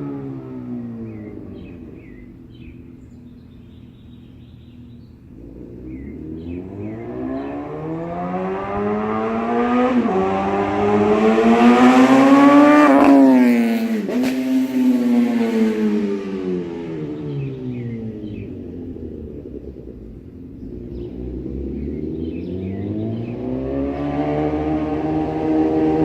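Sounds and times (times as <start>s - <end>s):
faint birds chirping: 0.0s - 14.2s, 15.0s - 25.4s
motorcycle engine revving: 0.0s - 26.0s.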